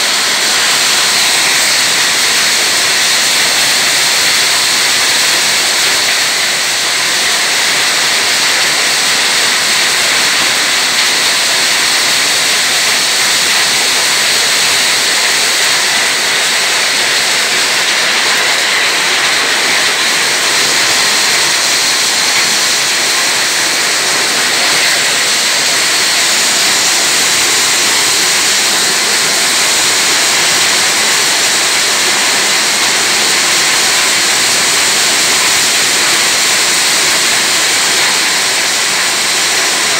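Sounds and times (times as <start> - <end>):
corn sheller machine running: 0.0 - 39.9.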